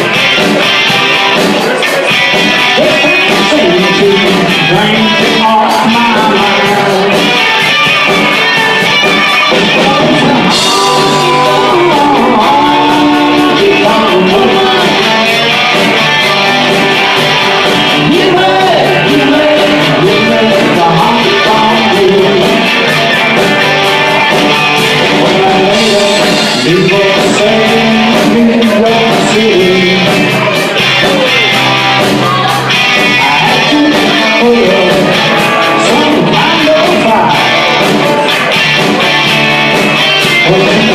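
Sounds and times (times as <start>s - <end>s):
band playing a song: 0.0s - 40.9s
guitar: 0.0s - 40.9s
person singing: 0.0s - 40.9s.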